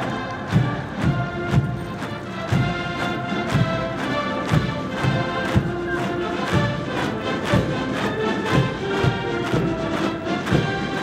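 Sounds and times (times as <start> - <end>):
military band playing march: 0.0 - 11.0.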